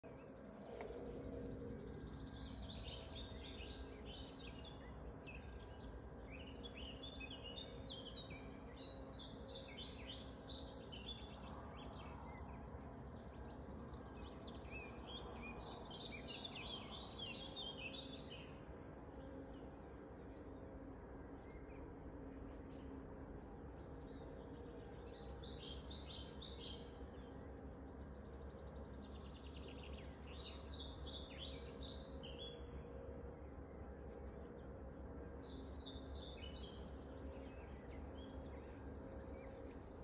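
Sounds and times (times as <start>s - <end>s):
faint low hum: 0.0s - 40.0s
songbird singing trills: 0.0s - 40.0s.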